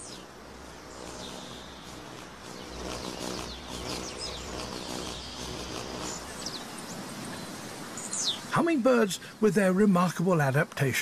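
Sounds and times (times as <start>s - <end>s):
birds chirping: 0.0s - 10.4s.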